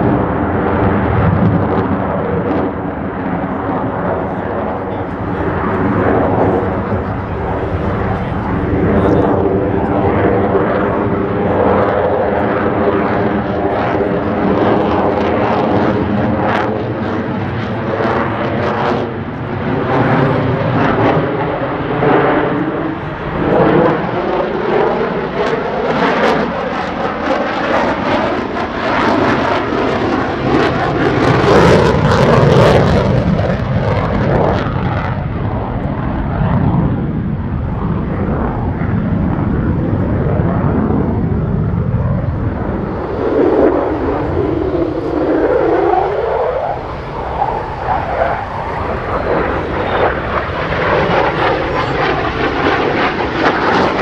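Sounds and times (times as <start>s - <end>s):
fighter jet engine roar: 0.0s - 54.0s.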